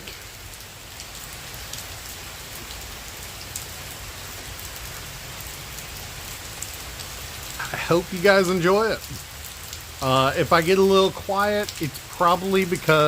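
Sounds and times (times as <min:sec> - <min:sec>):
heavy rain hissing: 0:00.0 - 0:13.0
raindrops ticking: 0:00.0 - 0:13.0.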